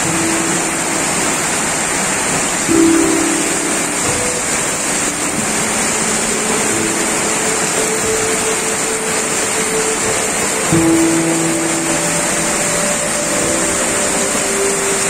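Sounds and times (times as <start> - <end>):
floodwater rushing: 0.0 - 15.0
heavy rain falling: 0.0 - 15.0.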